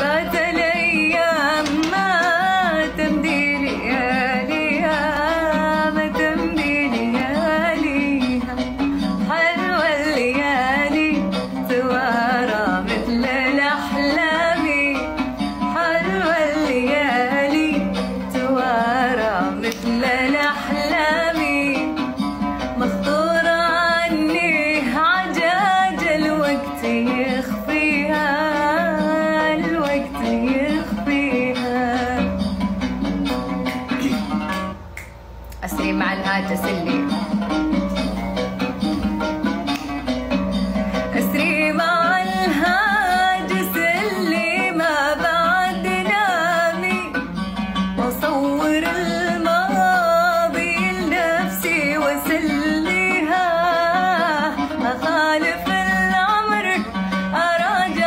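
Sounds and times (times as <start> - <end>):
woman singing: 0.0 - 32.6, 35.5 - 37.5, 40.9 - 58.0
plucked strings: 0.0 - 58.0.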